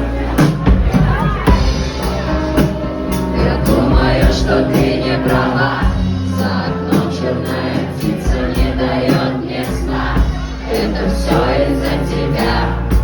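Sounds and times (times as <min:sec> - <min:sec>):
acoustic band playing: 0:00.0 - 0:13.0
several voices singing: 0:01.4 - 0:13.0.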